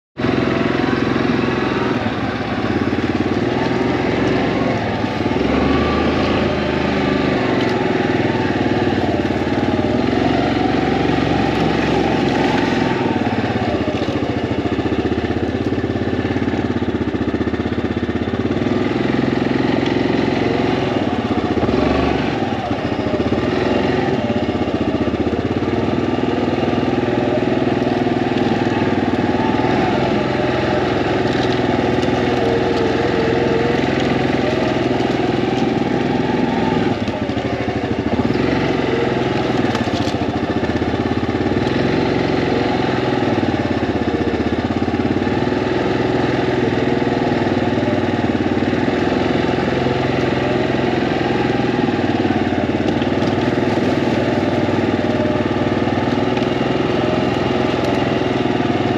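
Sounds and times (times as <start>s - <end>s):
atv engine running: 0.2s - 58.9s.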